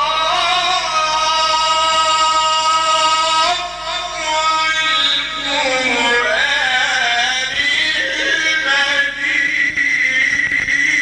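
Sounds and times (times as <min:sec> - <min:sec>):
man chanting melodic recitation: 0:00.0 - 0:11.0.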